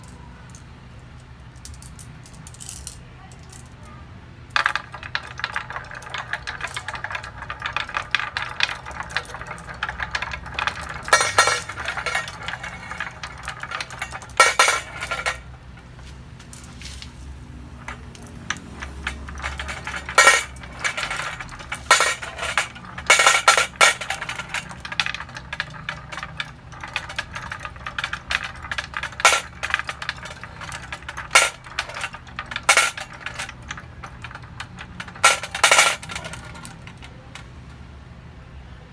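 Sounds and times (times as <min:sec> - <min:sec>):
marbles clacking: 0:04.5 - 0:37.4
marbles rattling down a marble run: 0:04.5 - 0:37.4.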